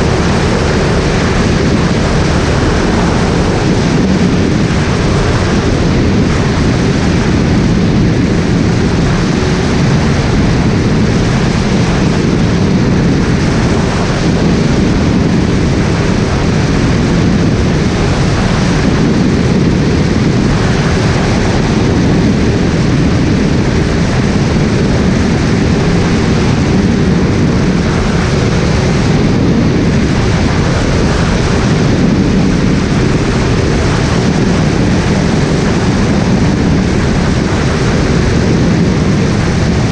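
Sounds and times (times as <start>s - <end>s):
light aircraft engine: 0.0s - 39.9s.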